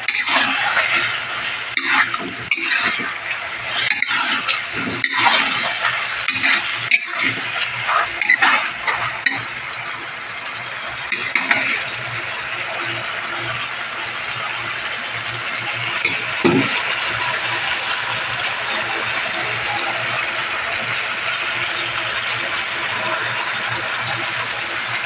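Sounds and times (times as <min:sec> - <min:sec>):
sauce sizzling: 0:00.0 - 0:25.0.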